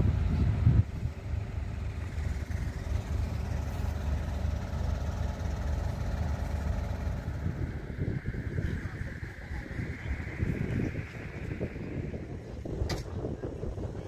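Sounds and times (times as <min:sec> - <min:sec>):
diesel tractor engines idling: 0:00.0 - 0:14.0.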